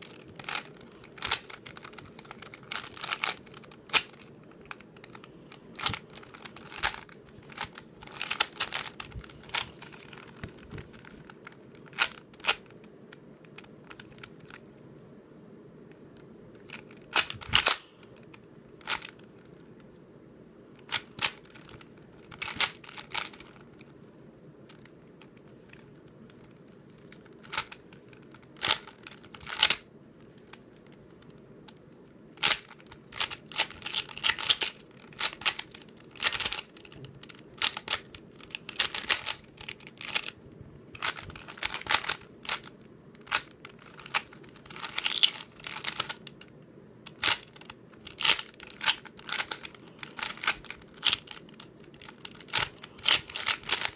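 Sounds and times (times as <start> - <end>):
puzzle cube plastic clicks: 0.0 - 12.8, 13.4 - 14.6, 16.6 - 19.7, 20.8 - 23.9, 24.7 - 31.8, 32.4 - 40.4, 41.0 - 53.9.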